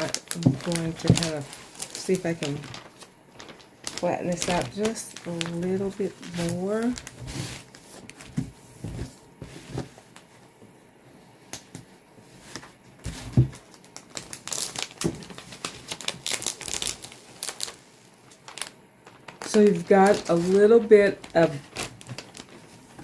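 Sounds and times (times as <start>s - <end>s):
plastic film crinkling: 0.0s - 8.4s, 12.5s - 23.0s.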